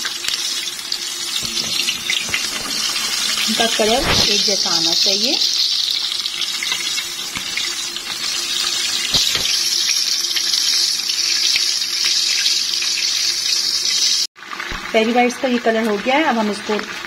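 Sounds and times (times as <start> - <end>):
oil sizzling while deep-frying: 0.0 - 17.0.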